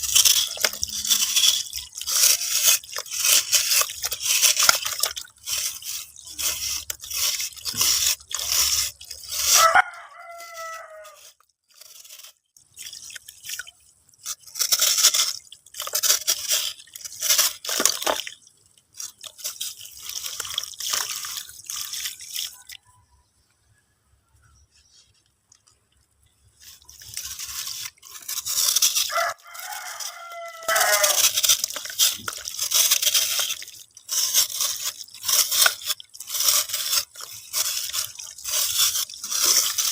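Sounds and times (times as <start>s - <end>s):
brittle crunching and crumbling: 0.0s - 22.7s, 26.6s - 39.9s.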